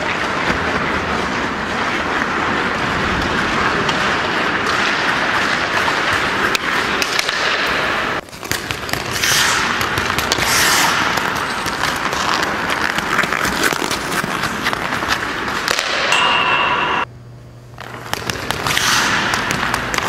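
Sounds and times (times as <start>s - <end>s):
skates scraping on ice: 0.0s - 16.1s, 17.8s - 20.0s
hockey sticks and puck clicking: 0.0s - 17.1s, 17.7s - 20.0s.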